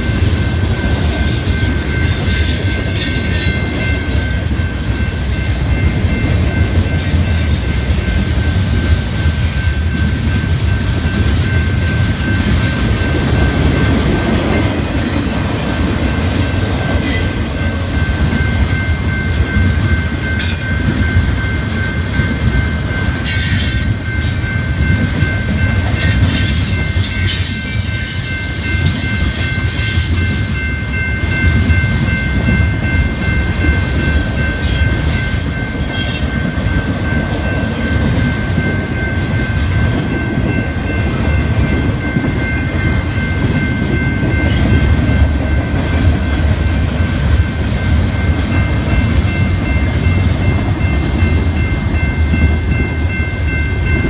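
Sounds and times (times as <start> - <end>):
train clanking: 0.0 - 54.0
train wheels rumbling on rails: 0.0 - 54.0.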